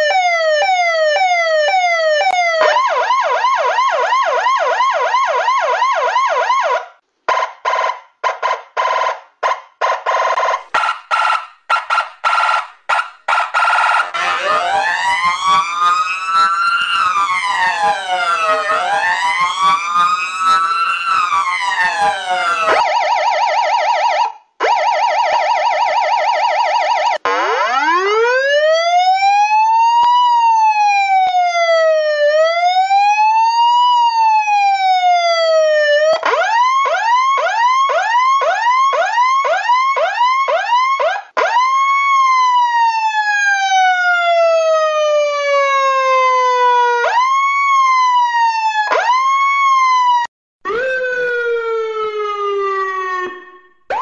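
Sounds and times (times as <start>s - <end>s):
electronic siren wailing and yelping: 0.0s - 54.0s.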